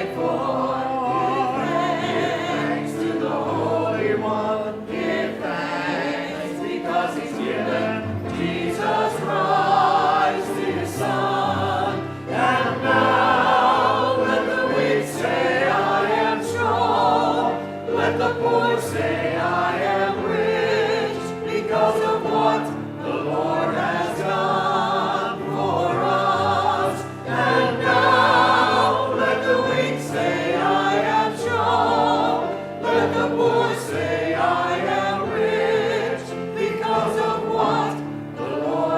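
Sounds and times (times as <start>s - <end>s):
church choir singing: 0.0s - 38.9s.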